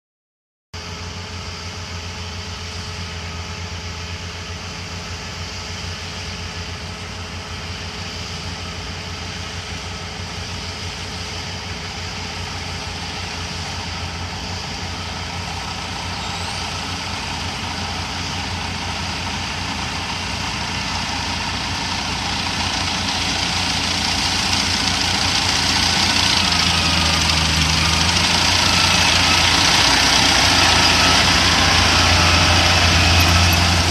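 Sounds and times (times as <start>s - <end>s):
combine harvester engine hum: 0.8s - 33.9s.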